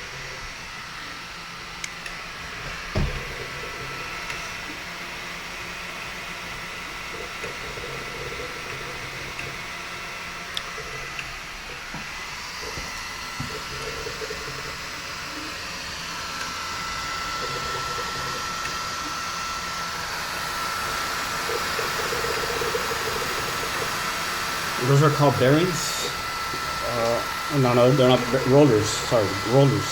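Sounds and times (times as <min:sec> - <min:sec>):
fan hiss with thin whine: 0:00.0 - 0:29.9
stepper motors buzzing: 0:00.0 - 0:29.9.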